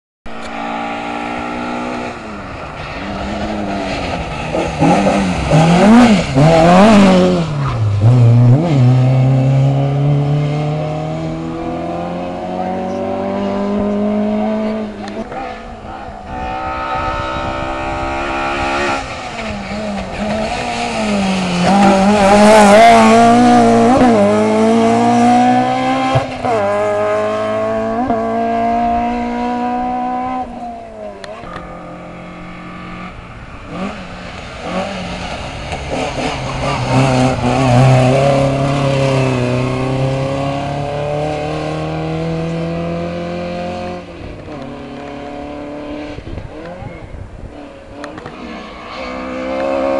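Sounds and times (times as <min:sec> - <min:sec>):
race car engine revving: 0:00.3 - 0:49.9.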